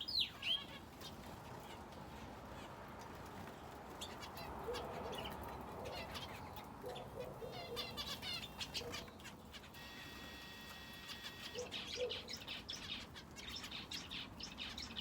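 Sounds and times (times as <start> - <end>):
small birds chirping: 0.0 - 1.8, 3.9 - 15.0.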